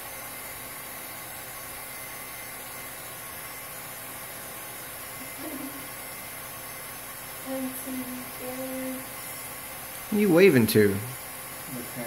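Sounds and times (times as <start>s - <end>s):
film projector whirring: 0.0s - 12.0s.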